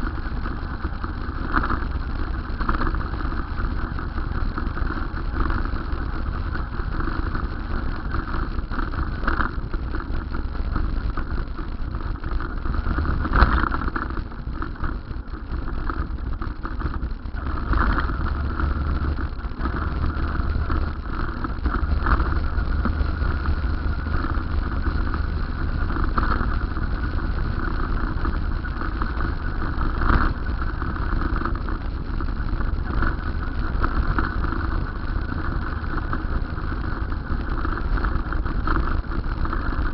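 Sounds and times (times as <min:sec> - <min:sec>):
vehicle and road noise: 0:00.0 - 0:39.9.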